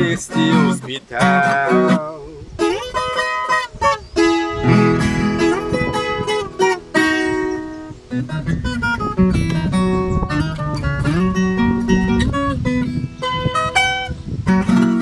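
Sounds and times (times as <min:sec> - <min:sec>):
acoustic guitars plucking melody: 0:00.0 - 0:15.0.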